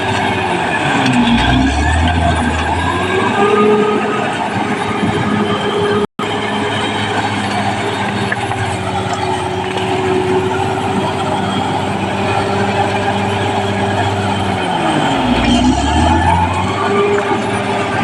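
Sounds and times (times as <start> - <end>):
bulldozer diesel engine under load: 0.0 - 18.0.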